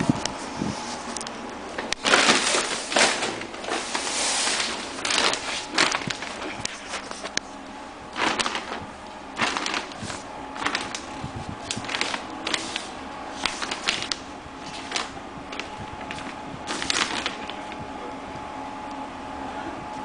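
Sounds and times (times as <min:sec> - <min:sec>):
fan hum: 0:00.0 - 0:20.0.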